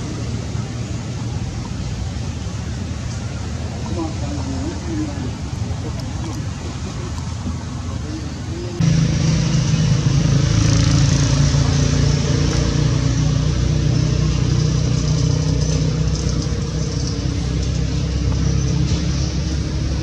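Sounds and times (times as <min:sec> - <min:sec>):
motor engine humming: 0:00.0 - 0:20.0.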